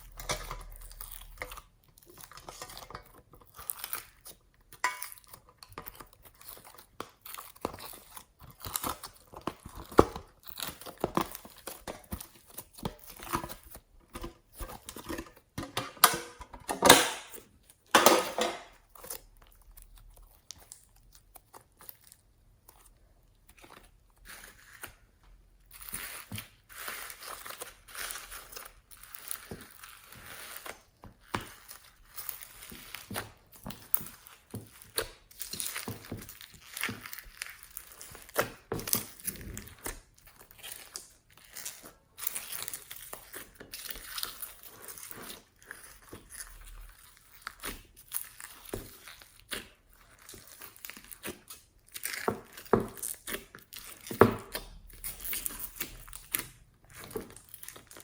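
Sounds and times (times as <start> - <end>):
slime squishing and crackling: 0.0 - 18.0, 18.6 - 58.0.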